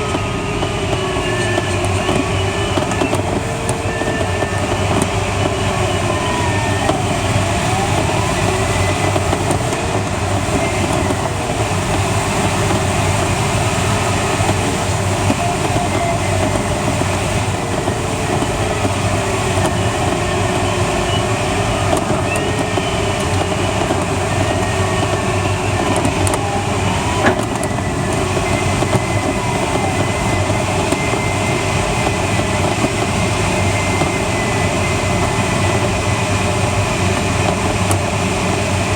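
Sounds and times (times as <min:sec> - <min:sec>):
rush of air around cockpit: 0:00.0 - 0:38.9.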